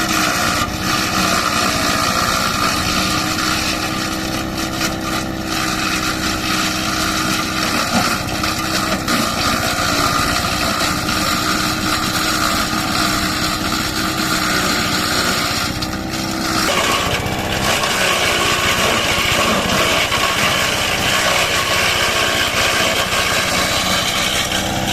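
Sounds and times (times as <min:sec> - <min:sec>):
chopper shredding stems: 0:00.0 - 0:24.9
small engine droning: 0:00.0 - 0:24.9.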